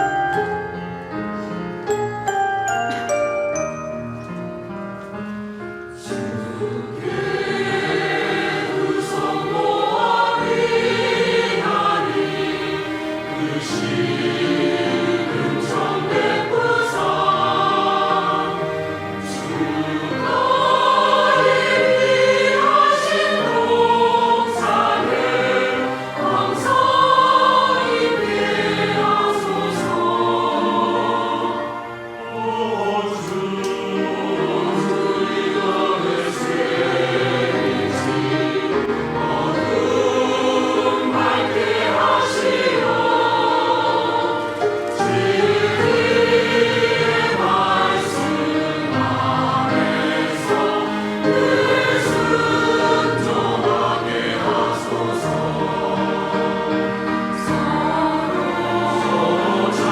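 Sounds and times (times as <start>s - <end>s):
church choir singing: 0.0s - 2.0s, 4.2s - 59.9s.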